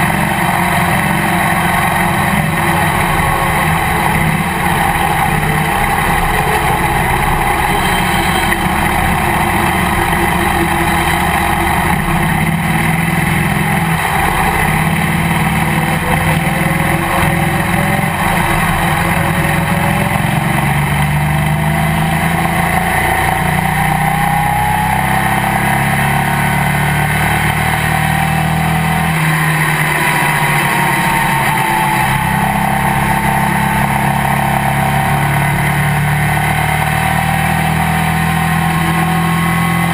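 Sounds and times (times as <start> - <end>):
race car engine at speed: 0.0 - 39.9
road and wind noise: 0.0 - 39.9.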